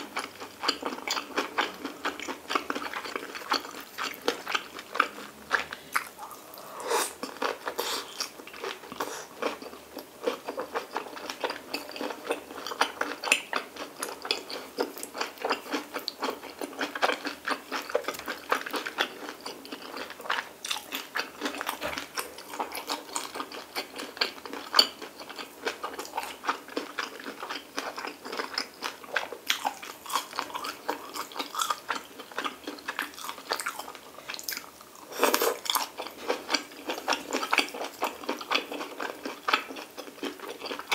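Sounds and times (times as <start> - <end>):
person chewing with mouth clicks: 0.0 - 40.9.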